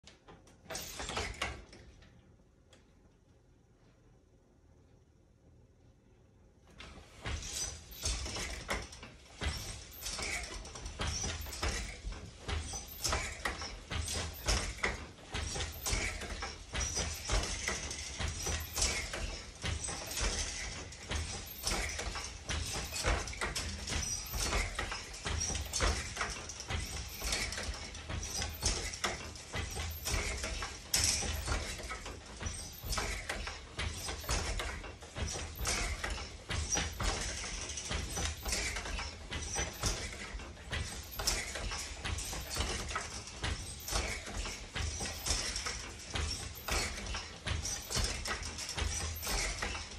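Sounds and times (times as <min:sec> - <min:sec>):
loom wooden knocks and thumps: 0:00.1 - 0:01.9, 0:06.8 - 0:49.9.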